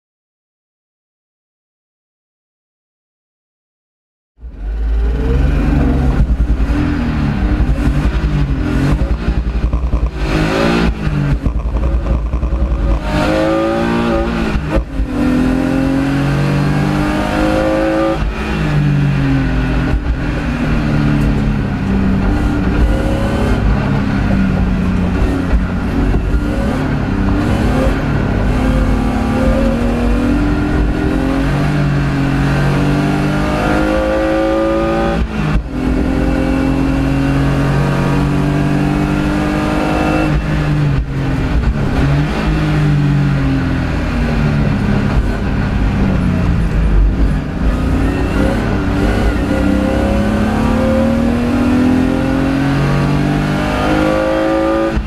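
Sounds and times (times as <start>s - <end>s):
race car engine revving: 4.4s - 55.0s.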